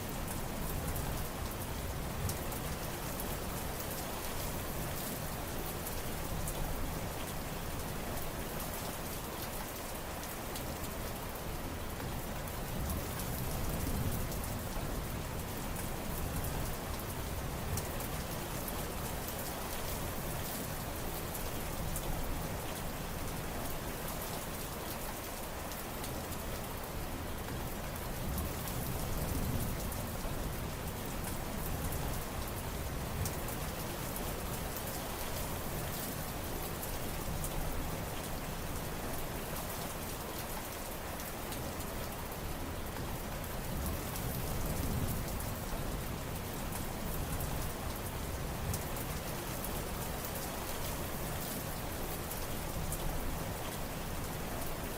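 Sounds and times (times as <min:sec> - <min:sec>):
rain pattering on surfaces: 0:00.0 - 0:54.9.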